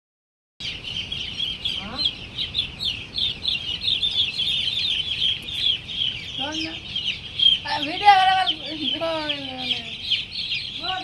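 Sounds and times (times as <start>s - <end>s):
chicks peeping: 0.6s - 11.0s.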